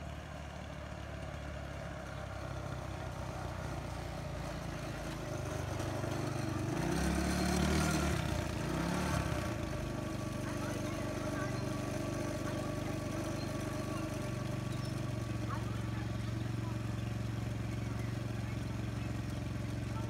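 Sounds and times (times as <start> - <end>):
go-kart engine revving: 0.0 - 20.0.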